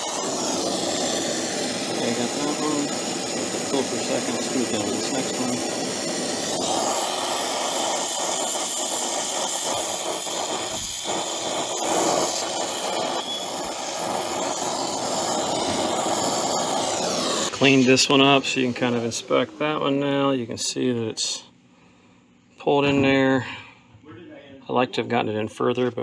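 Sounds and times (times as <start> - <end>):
torch flame hissing: 0.0 - 21.4.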